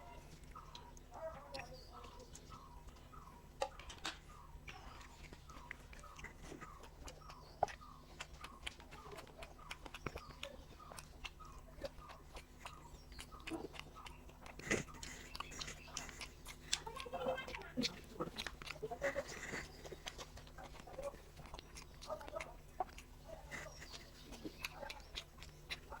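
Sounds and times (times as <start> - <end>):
wet chewing and lip smacks: 0.0 - 26.0.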